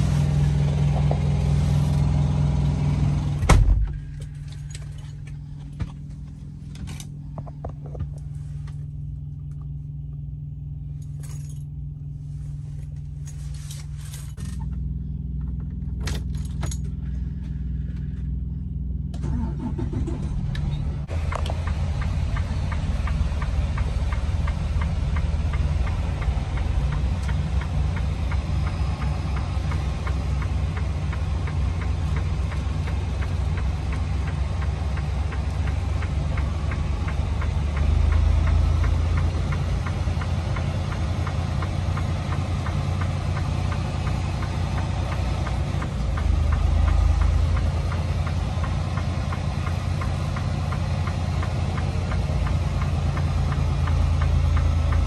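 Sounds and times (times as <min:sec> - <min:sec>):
diesel truck engine idling: 0:00.0 - 0:11.0, 0:14.6 - 0:55.0.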